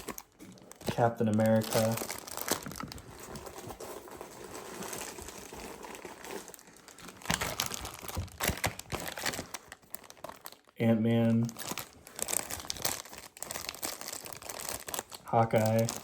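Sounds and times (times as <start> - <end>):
plastic packs crinkling: 0.0 - 16.0.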